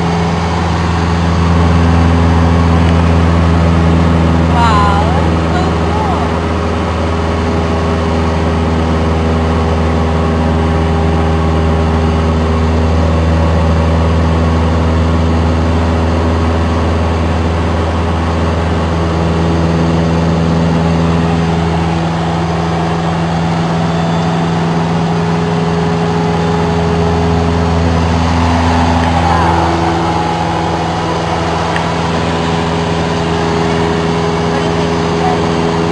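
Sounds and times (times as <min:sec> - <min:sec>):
light aircraft engine droning: 0:00.0 - 0:35.9.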